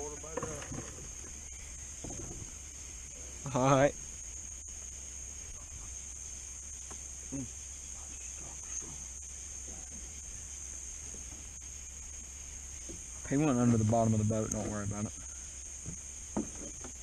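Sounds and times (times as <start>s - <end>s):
crickets chirping: 0.0s - 17.0s
faint low hum: 0.0s - 17.0s.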